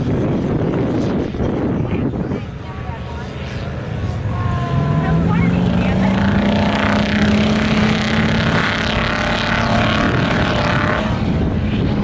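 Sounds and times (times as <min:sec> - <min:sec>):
engine running hard under load: 0:00.0 - 0:12.0.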